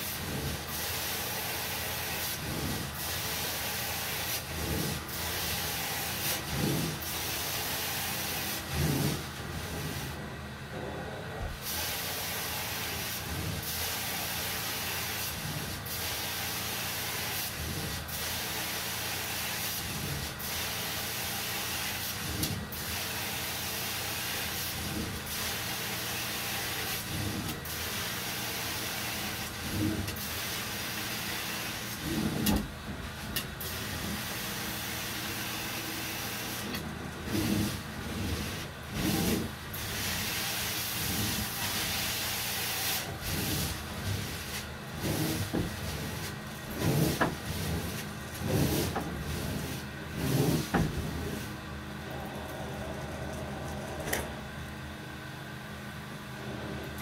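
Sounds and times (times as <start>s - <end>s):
carpet cleaning machine hissing: 0.0s - 54.9s.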